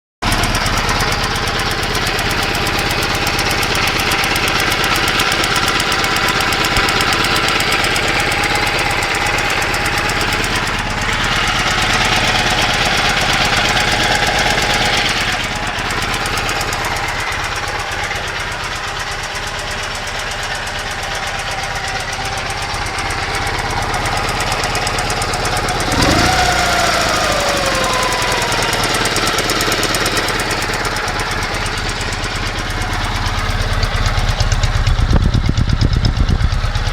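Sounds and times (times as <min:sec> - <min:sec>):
motorcycle engine knocking: 0:00.2 - 0:36.9.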